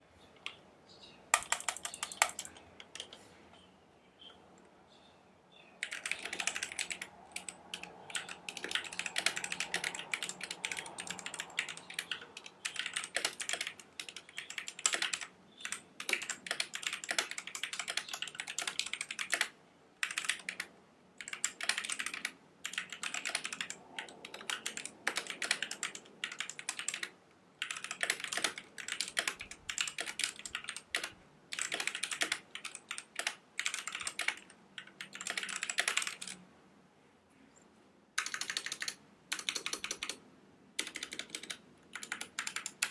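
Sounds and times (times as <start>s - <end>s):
typing on mechanical keyboard: 1.3s - 3.2s, 5.8s - 36.4s, 38.2s - 40.2s, 40.8s - 42.9s.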